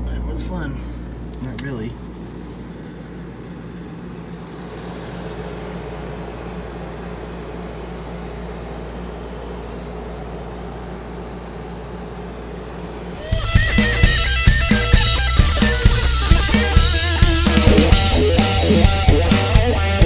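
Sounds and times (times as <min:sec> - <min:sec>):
dehumidifier humming: 0:00.0 - 0:20.0.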